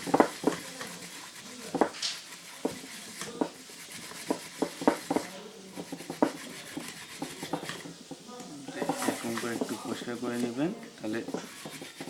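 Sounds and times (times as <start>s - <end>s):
soft scraping: 0.0s - 12.0s.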